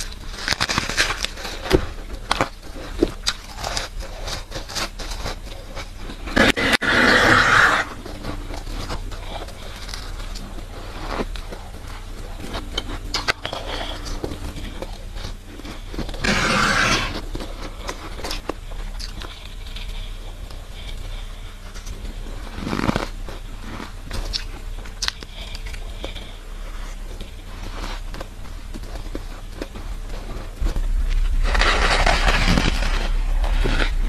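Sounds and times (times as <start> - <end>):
crunching and chewing frost: 0.0 - 34.0
spoon scraping frost: 0.0 - 34.0.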